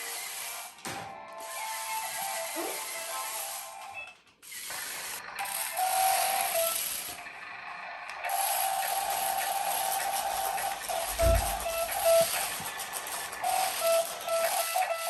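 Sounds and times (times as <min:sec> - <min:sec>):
toy car motor whirring: 0:00.0 - 0:15.0.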